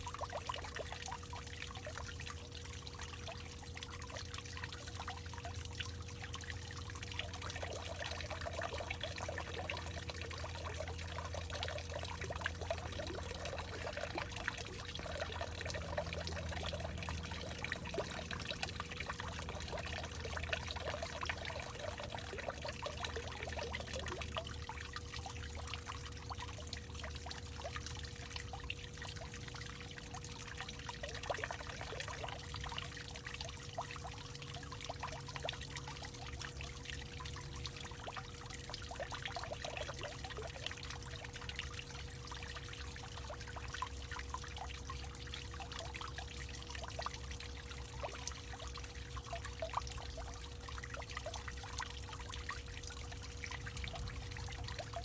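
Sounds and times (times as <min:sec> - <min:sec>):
faint low hum: 0:00.0 - 0:55.0
water pouring and trickling: 0:00.0 - 0:55.0.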